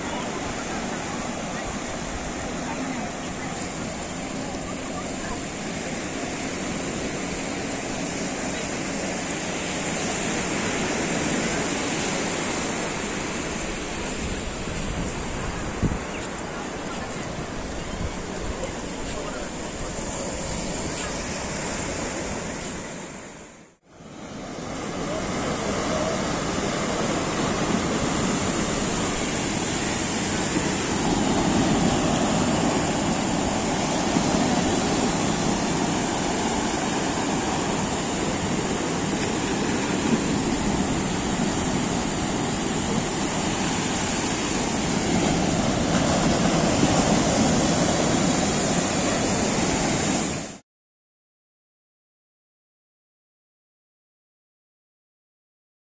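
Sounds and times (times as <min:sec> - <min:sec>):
surf waves breaking: 0:00.0 - 0:50.6.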